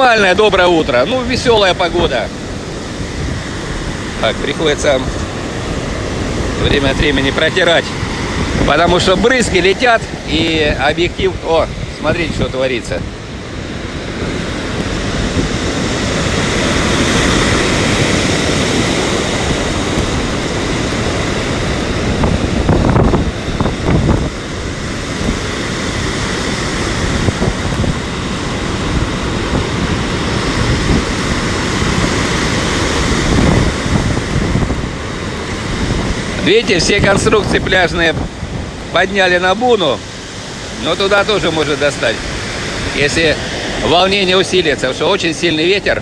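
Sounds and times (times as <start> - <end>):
wind buffeting microphone: 0.0 - 45.1
storm surf breaking: 0.0 - 46.0.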